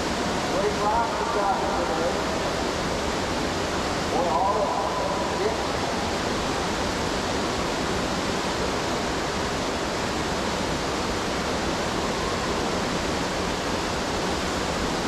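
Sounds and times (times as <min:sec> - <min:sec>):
whitewater rapid rushing: 0:00.0 - 0:15.0.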